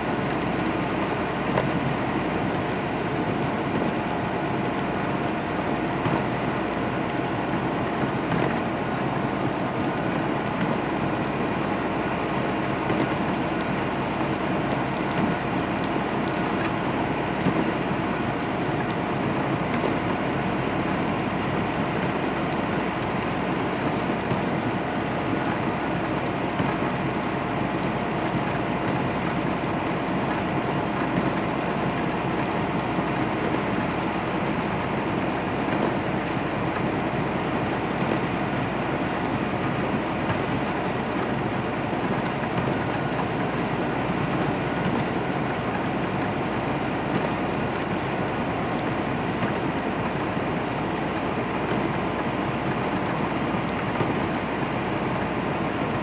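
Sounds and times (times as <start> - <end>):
truck engine drone: 0.0 - 56.0
tyres hissing on wet road: 0.0 - 56.0.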